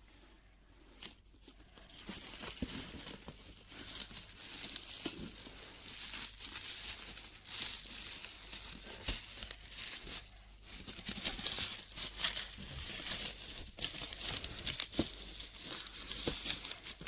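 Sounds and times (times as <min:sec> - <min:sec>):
packaging crinkling: 0:01.3 - 0:17.0.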